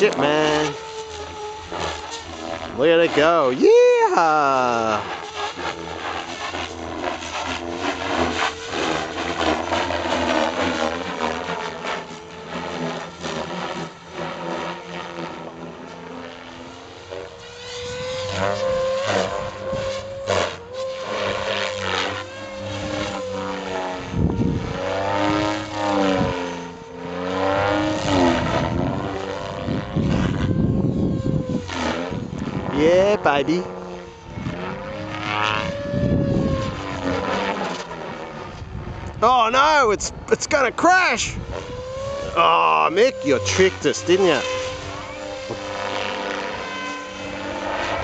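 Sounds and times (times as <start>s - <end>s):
rc helicopter rotor whine: 0.0s - 48.0s.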